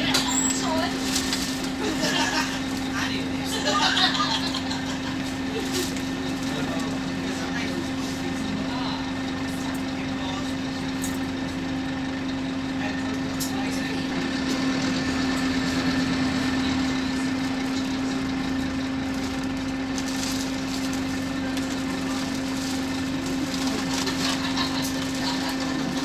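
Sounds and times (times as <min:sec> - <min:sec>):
bus diesel engine drone: 0:00.0 - 0:26.0.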